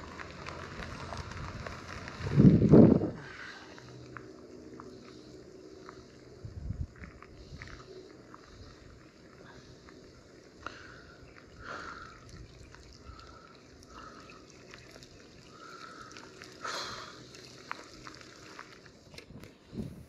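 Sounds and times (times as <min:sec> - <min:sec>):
light rain drops: 0:00.0 - 0:20.0.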